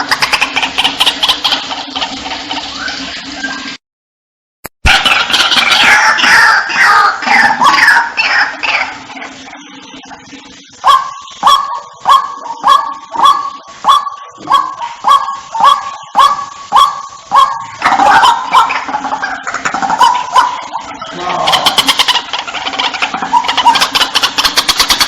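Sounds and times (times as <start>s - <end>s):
waterhen sharp calls: 0.0s - 3.8s, 4.9s - 25.0s.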